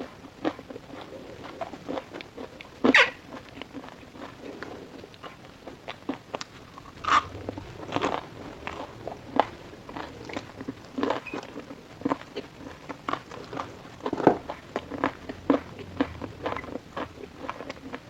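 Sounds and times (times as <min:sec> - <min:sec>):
chewing crisp fried food: 0:00.0 - 0:18.0.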